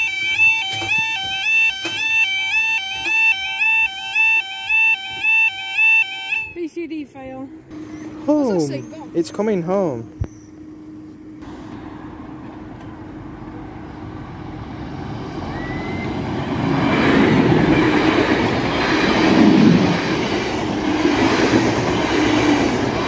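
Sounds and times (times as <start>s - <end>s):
train passing: 0.0s - 23.0s.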